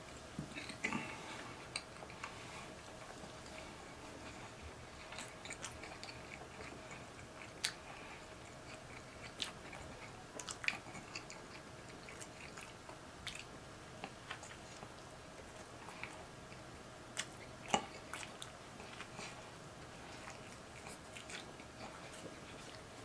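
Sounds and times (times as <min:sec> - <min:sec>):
person chewing: 0:00.4 - 0:23.0.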